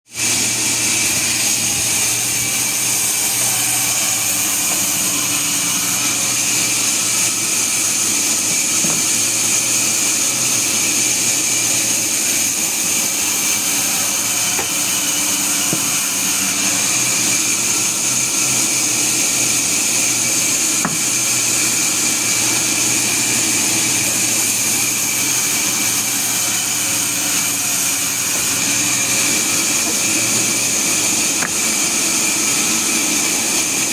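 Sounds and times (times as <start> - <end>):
sawmill saw whining: 0.0 - 33.9.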